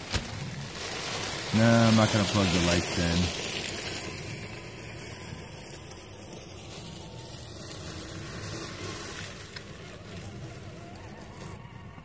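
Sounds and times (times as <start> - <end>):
tyres crunching dry leaves: 0.0 - 12.0.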